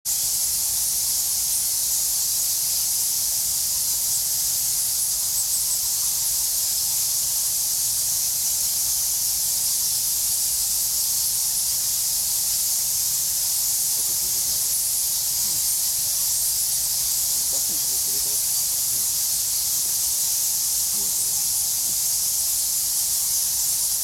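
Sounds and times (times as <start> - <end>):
steady high-pitched hiss: 0.1 - 24.0.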